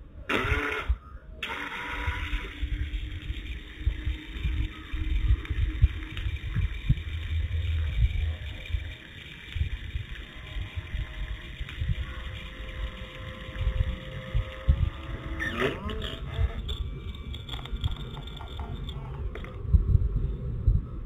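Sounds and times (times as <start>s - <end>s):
small electric water pump humming: 0.0s - 20.1s
low rumble with thumps: 0.0s - 21.0s.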